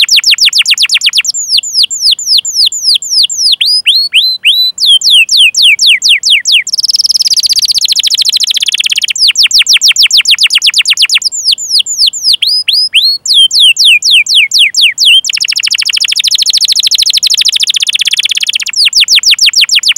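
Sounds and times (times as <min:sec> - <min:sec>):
canary chirps and trills: 0:00.0 - 0:19.9.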